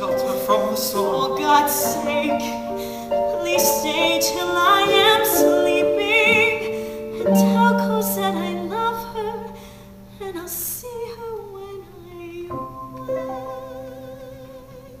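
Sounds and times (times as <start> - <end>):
slow soft music: 0.0 - 15.0.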